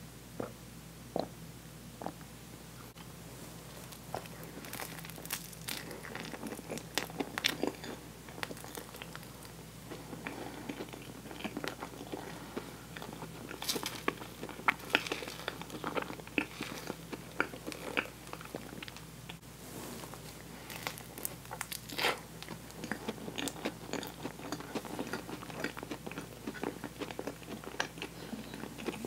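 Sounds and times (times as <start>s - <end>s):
chewing sticky marshmallow: 3.8s - 19.4s, 20.3s - 29.0s.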